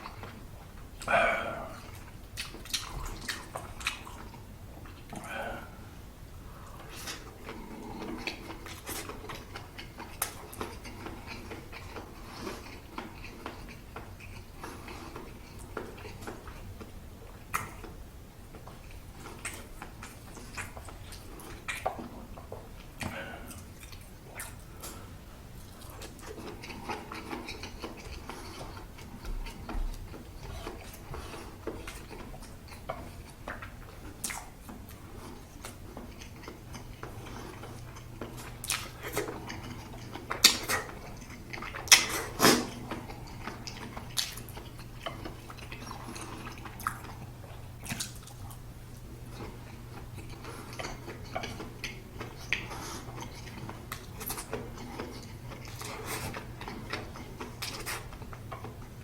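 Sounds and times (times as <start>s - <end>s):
person chewing and slurping: 0.0s - 59.0s.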